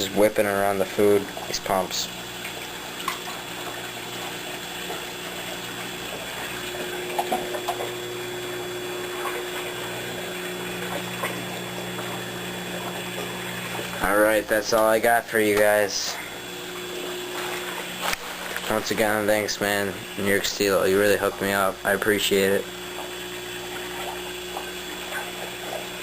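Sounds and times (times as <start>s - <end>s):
electrical hum: 0.0s - 26.0s
water rushing: 0.0s - 26.0s.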